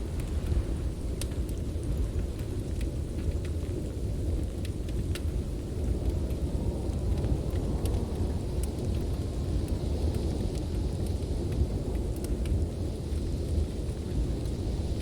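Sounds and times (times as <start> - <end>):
blizzard wind roaring: 0.0 - 15.0
wood fire crackling: 0.0 - 15.0.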